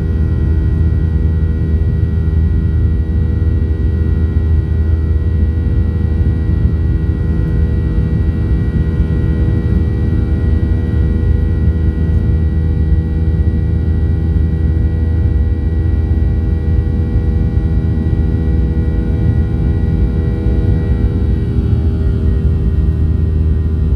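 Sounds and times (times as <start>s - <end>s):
airplane cabin engine drone: 0.0s - 23.9s.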